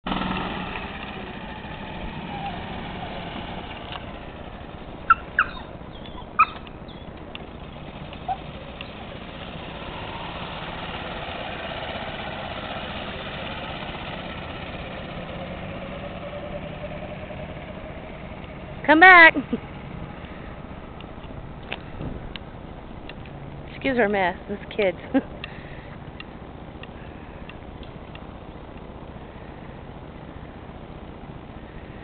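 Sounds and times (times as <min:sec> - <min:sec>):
golf cart engine driving away: 0:00.0 - 0:32.0.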